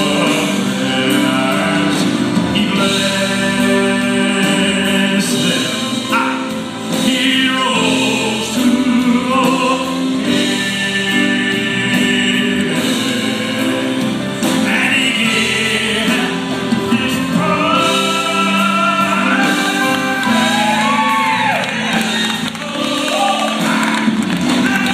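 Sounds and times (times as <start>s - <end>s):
instrumental backing: 0.0s - 24.9s
male voices singing in harmony: 0.0s - 24.9s.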